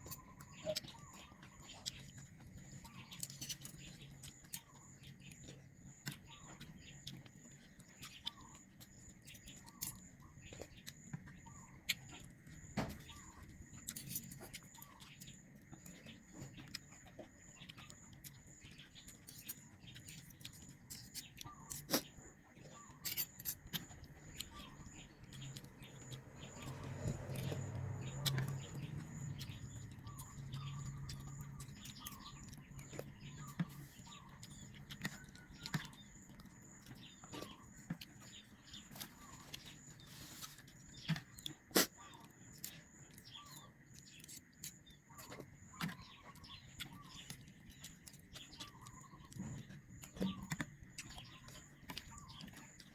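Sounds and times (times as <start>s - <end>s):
wet chewing of noodles: 0.0s - 52.9s.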